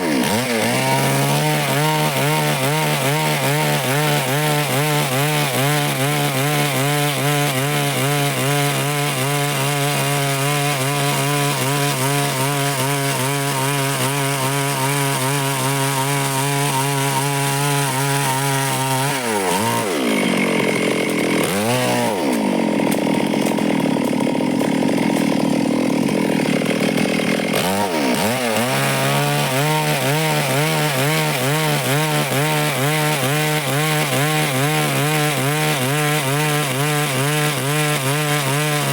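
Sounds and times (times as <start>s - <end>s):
chainsaw sawing through wood: 0.0s - 38.9s.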